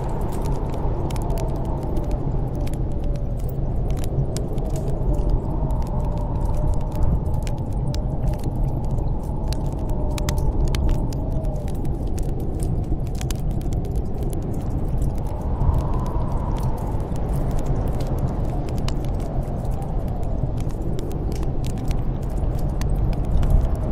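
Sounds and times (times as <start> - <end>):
snowstorm wind howling: 0.0 - 23.9
wood fire crackling and popping: 0.0 - 23.9.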